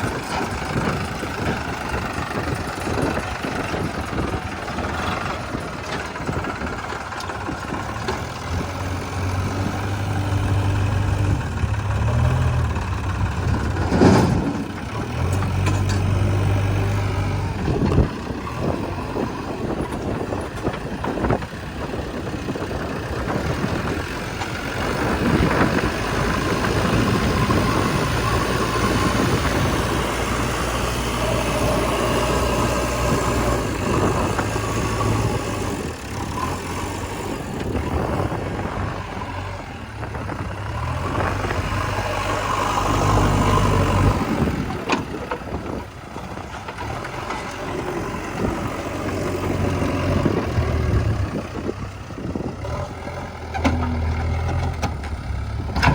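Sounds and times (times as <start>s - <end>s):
diesel engine revving under load: 0.0s - 55.9s.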